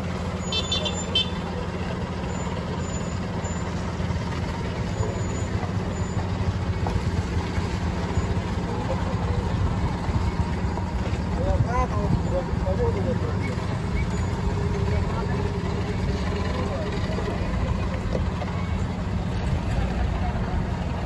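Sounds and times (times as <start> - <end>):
heavy vehicle engine drone: 0.0 - 21.0.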